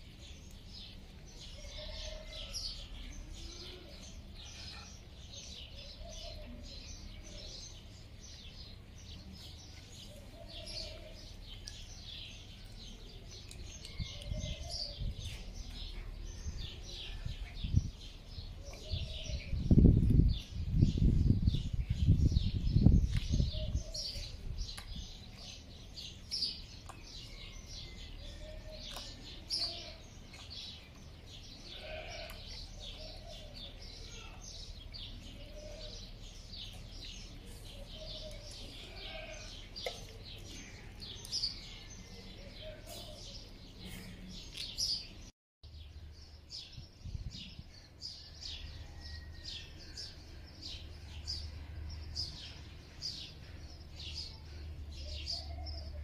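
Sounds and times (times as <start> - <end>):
small birds chirping: 0.0 - 49.2.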